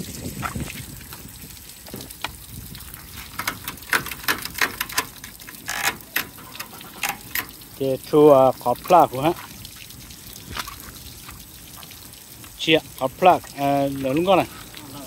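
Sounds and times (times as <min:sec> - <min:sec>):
water drips: 0:00.0 - 0:15.0
water trickling and splashing: 0:00.0 - 0:15.0.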